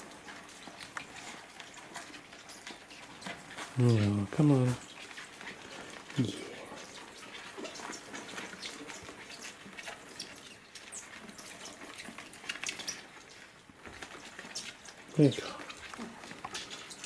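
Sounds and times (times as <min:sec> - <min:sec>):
cockroaches scratching on plastic: 0:00.1 - 0:17.0.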